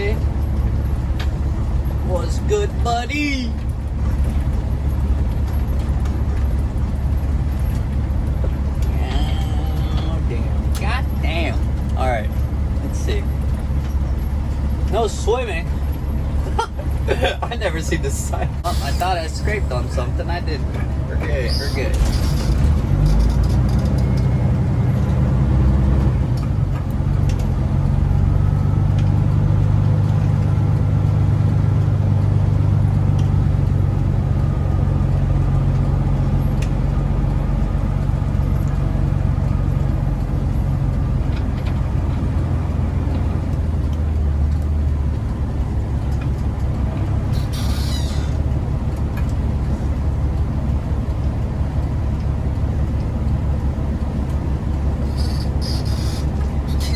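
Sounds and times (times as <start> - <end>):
truck diesel engine droning: 0.0 - 56.9.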